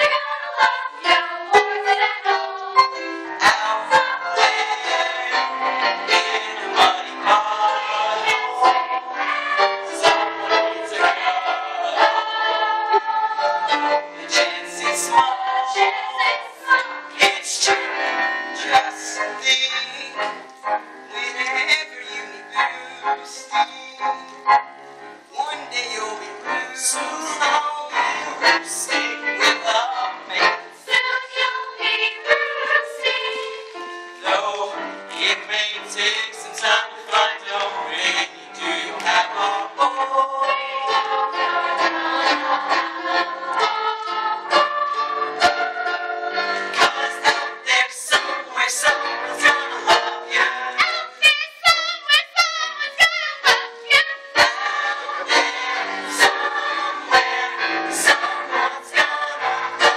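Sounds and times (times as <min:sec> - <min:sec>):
voices singing a show tune: 0:00.0 - 0:17.9, 0:25.4 - 0:59.9
musical accompaniment: 0:00.0 - 0:59.9.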